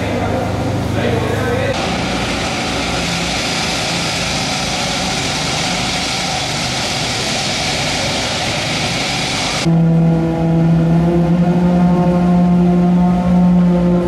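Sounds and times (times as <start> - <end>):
machinery din in tunnel: 1.7 - 14.0.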